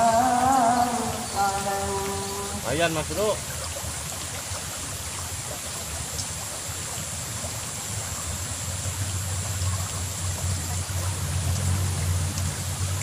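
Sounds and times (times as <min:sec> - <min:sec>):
stream flowing: 0:00.0 - 0:13.0.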